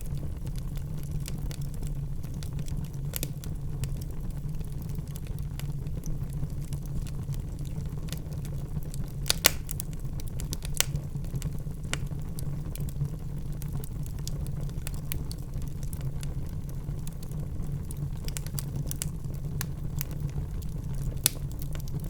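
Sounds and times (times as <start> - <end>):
burning logs popping and snapping: 0.0 - 22.0
low flame rumble: 0.0 - 22.0.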